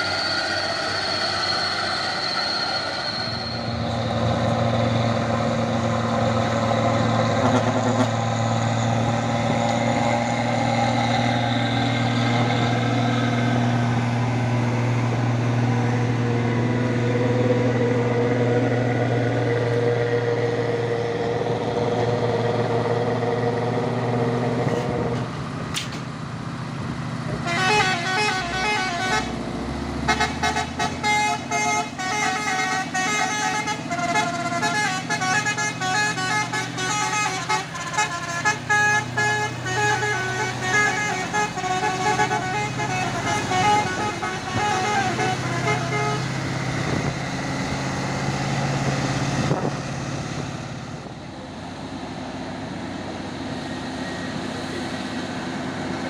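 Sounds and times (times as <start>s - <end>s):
heavy truck low drone: 0.0s - 56.0s.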